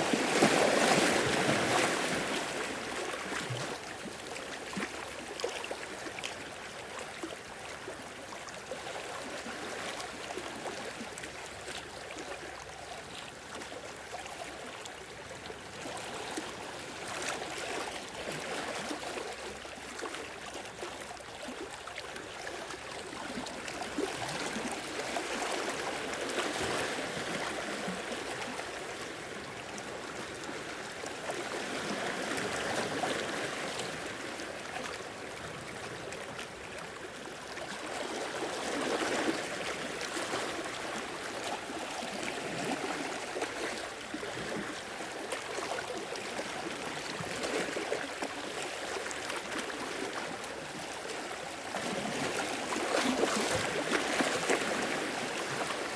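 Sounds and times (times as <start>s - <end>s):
gurgling water: 0.0s - 55.9s.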